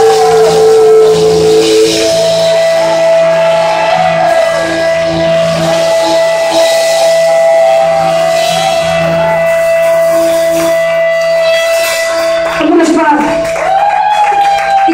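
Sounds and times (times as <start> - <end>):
drum kit: 0.0 - 14.9
electric guitar: 0.0 - 14.9
rock band playing: 0.0 - 14.9.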